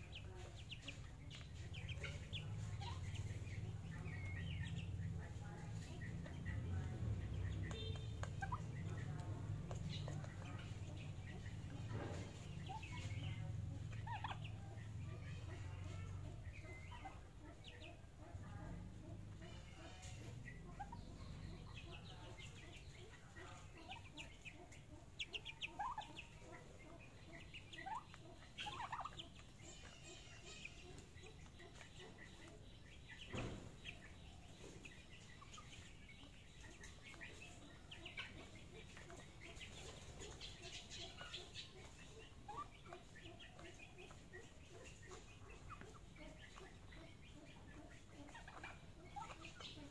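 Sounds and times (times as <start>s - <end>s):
bird chirps: 0.0s - 18.2s, 19.0s - 49.9s
young poultry peeping: 0.0s - 49.9s.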